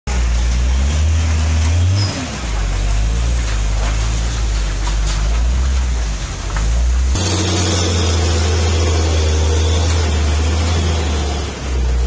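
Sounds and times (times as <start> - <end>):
truck diesel engine under strain: 0.1 - 12.0.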